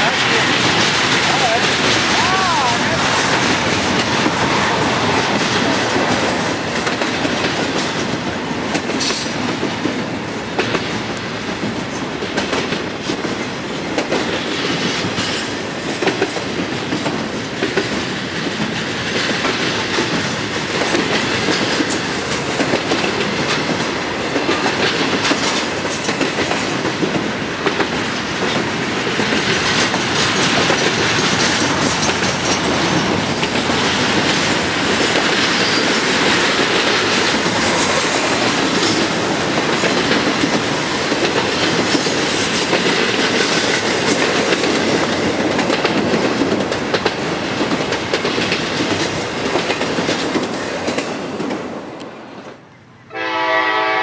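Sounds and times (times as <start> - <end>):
freight train rumbling and rattling: 0.0 - 54.0
train wheel clicks: 3.2 - 52.1.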